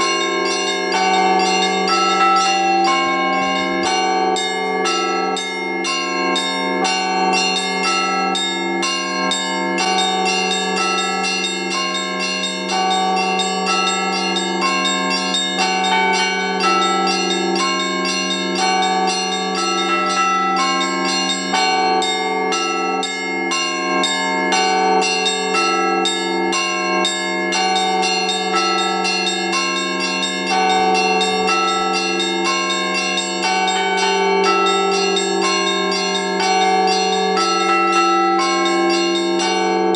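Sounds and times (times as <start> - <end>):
deep hum of large bell: 0.0 - 39.9
small church bells striking: 0.0 - 39.9.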